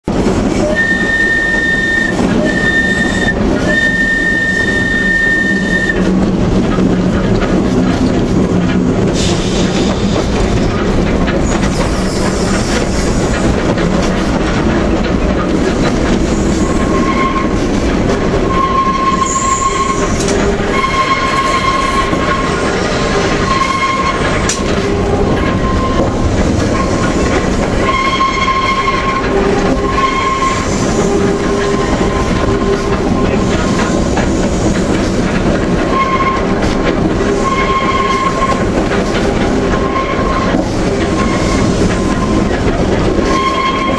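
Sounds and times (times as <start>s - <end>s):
tram wheels rumbling on rails: 0.0s - 43.9s
wheel flanges screeching: 0.5s - 43.9s.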